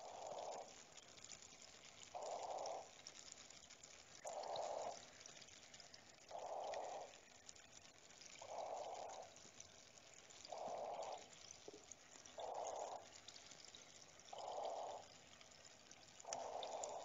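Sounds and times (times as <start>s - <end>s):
water dripping and trickling: 0.0s - 17.0s.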